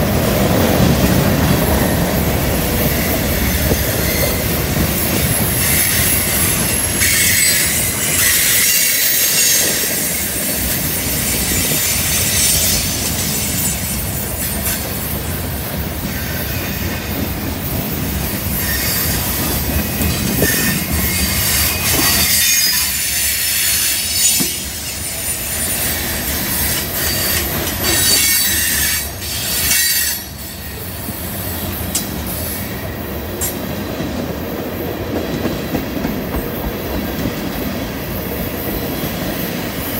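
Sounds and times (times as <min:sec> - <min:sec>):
low train rumble: 0:00.0 - 0:39.9
wheels squealing on rail: 0:00.8 - 0:34.1.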